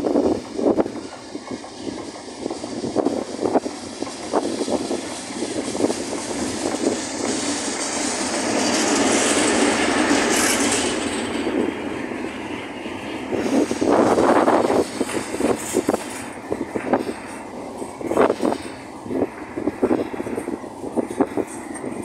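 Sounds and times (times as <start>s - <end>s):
diesel locomotive engine: 0.0s - 22.0s
train wheels rolling: 0.0s - 22.0s
wind buffeting microphone: 0.0s - 22.0s.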